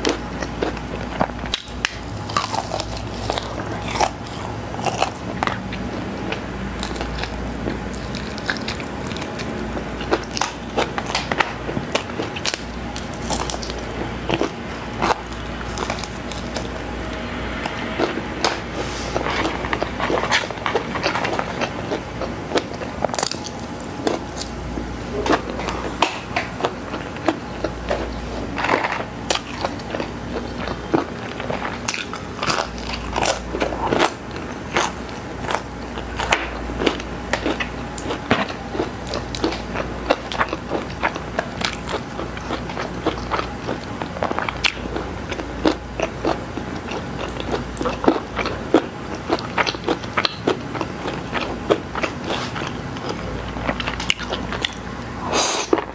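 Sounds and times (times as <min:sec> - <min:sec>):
crunchy food eating: 0:00.0 - 0:55.9.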